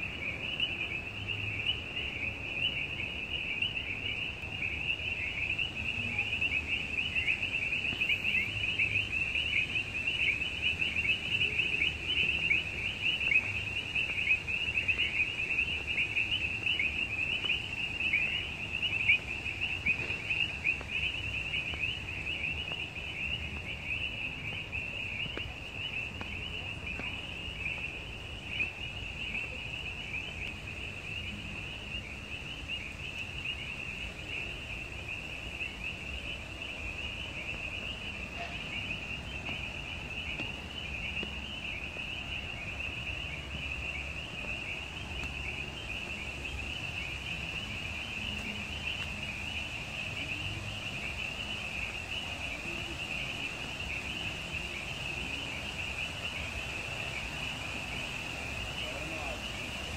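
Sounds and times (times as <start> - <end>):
birds chirping chorus: 0.0 - 59.9
fountain water rushing: 0.0 - 59.9.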